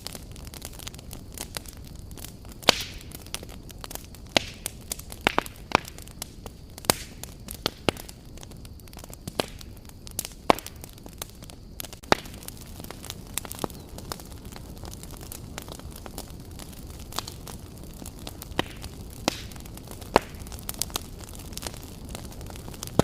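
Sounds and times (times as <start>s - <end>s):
campfire crackling and popping: 0.0s - 23.0s
low hiss of fire: 0.0s - 23.0s.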